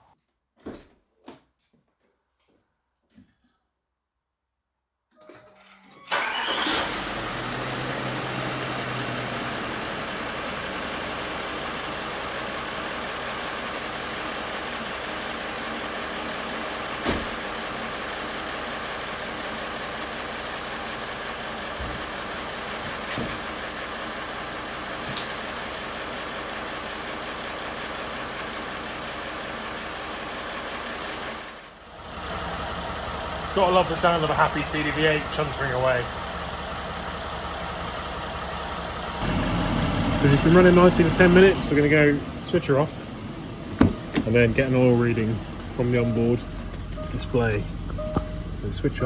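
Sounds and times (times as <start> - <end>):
diesel engine starting and idling: 5.4 - 49.0.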